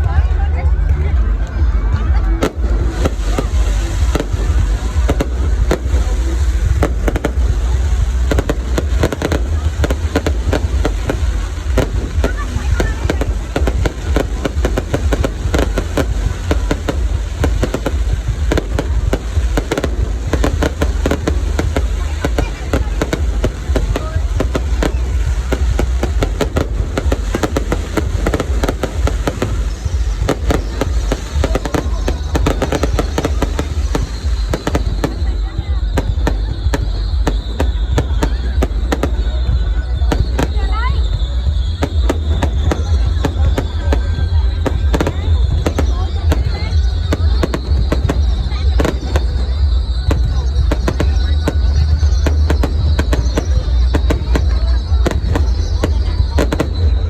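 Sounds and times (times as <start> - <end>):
low rumble: 0.0 - 57.0
fireworks bangs: 2.0 - 57.0.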